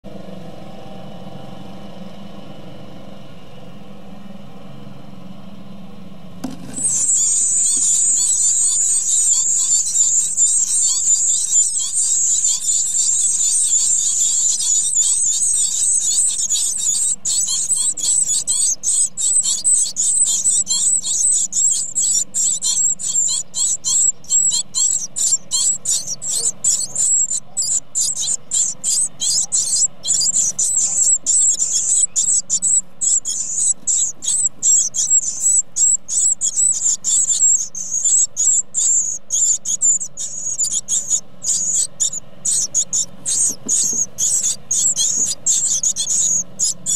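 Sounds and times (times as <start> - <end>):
nestlings begging calls: 6.4 - 46.9.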